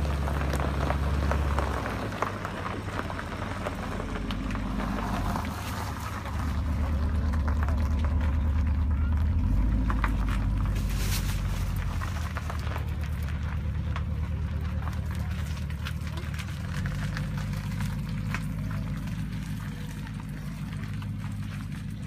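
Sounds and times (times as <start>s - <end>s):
car engine running low: 0.0s - 22.0s
tyres clicking over gravel: 0.0s - 22.0s.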